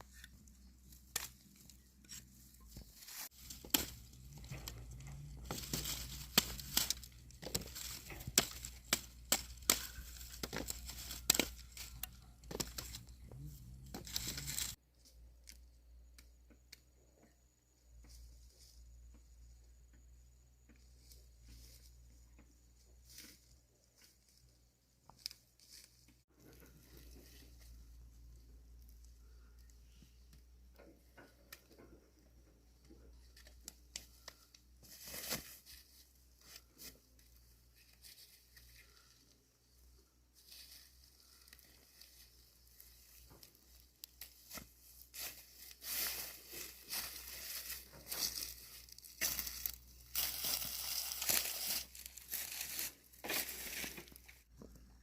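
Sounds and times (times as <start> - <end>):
rustling and crinkling: 0.0 - 15.6, 20.6 - 55.0.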